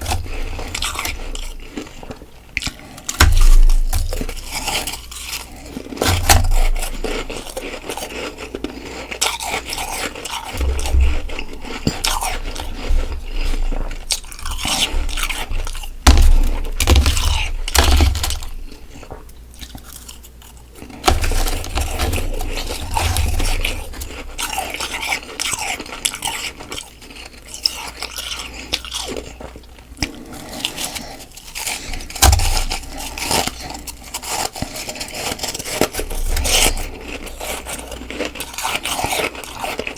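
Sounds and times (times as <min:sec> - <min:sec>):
chewing frost crunches: 0:00.0 - 0:39.9.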